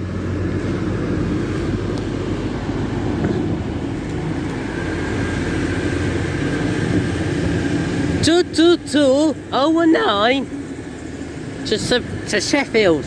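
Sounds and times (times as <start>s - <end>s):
train diesel engines rumbling: 0.0s - 13.0s.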